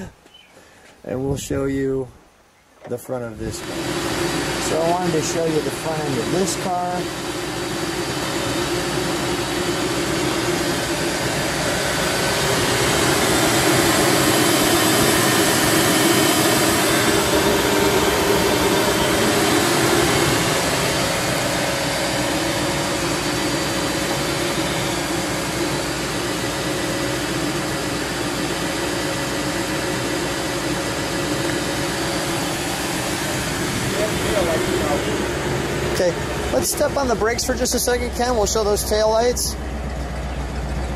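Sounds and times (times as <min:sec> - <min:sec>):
car engine idling: 0:03.3 - 0:40.9.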